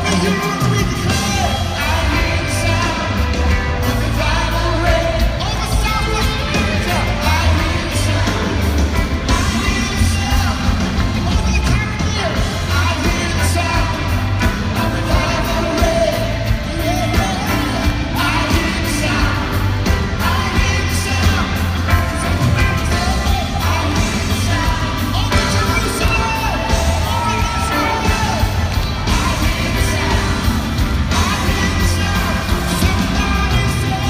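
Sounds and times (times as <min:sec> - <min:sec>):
heavy bass line: 0:00.0 - 0:34.0
worship band playing and singing: 0:00.0 - 0:34.0.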